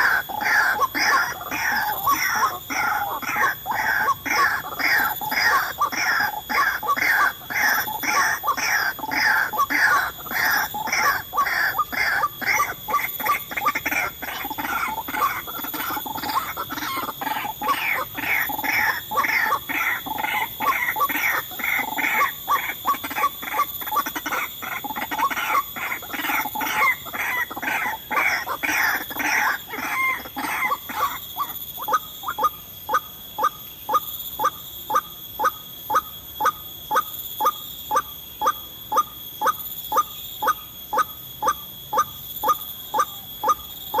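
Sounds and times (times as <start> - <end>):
waterhen calling: 0.0 - 37.1, 37.9 - 44.0.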